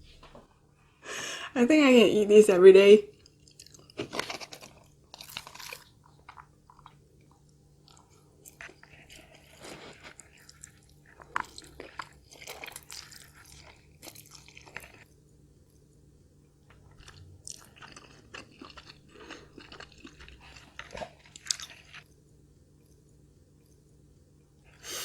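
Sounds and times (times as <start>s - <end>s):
chewing and crunching food: 3.0s - 24.9s.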